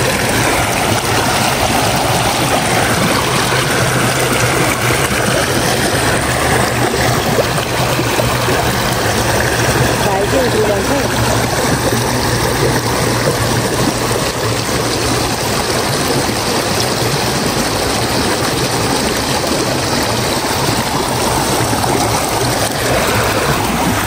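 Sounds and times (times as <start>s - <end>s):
river flowing: 0.0s - 24.0s.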